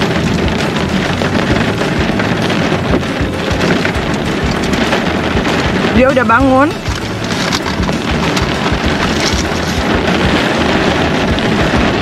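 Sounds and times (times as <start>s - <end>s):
heavy rain on a car roof: 0.0s - 12.0s.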